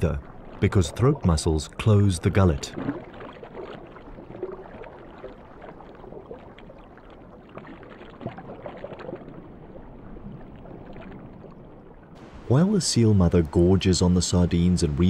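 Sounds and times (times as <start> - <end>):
muffled underwater water rush: 0.0 - 15.0
water gurgles and clicks: 0.0 - 15.0.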